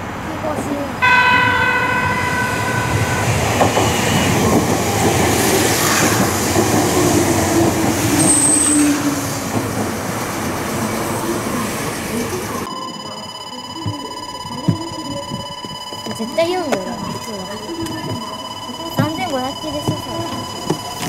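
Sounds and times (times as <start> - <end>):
train wheel and rail noise: 0.0 - 21.0.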